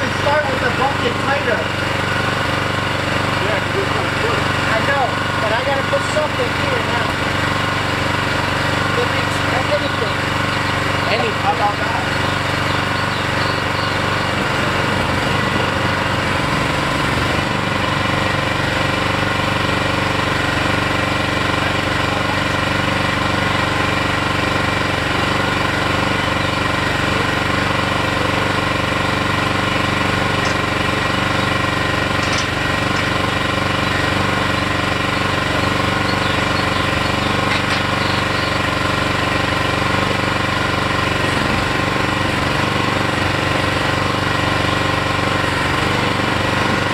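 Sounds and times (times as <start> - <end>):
small engine running steadily: 0.0 - 46.9.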